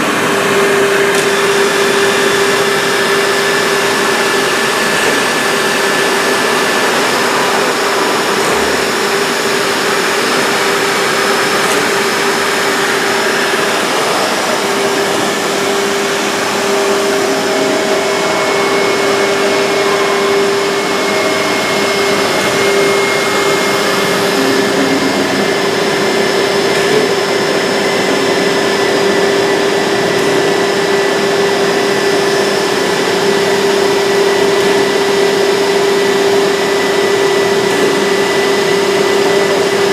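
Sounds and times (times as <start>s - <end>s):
woodworking machinery running: 0.0s - 39.9s.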